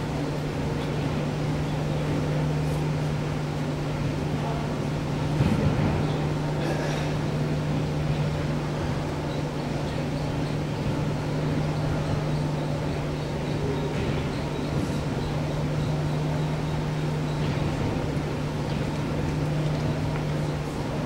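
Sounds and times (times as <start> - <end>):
ventilation drone: 0.0 - 21.0.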